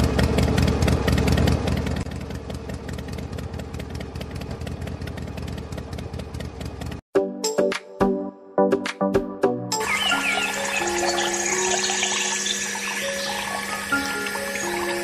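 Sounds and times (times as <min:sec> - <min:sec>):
small engine chugging: 0:00.0 - 0:07.0, 0:09.8 - 0:15.0.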